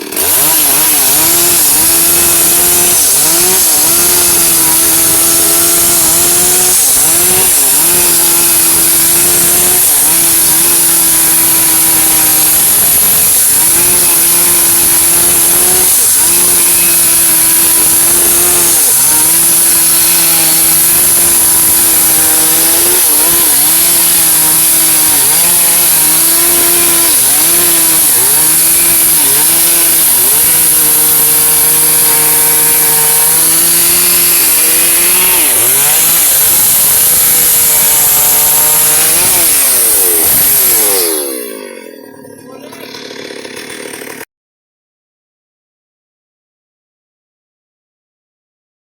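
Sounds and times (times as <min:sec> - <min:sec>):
chainsaw cutting wood: 0:00.0 - 0:44.3.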